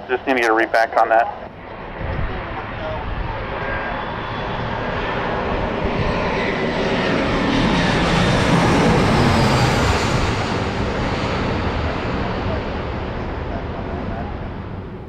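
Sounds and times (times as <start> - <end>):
faint falling jet whine: 0.0 - 15.0
jet plane rumble and hiss: 0.0 - 15.0.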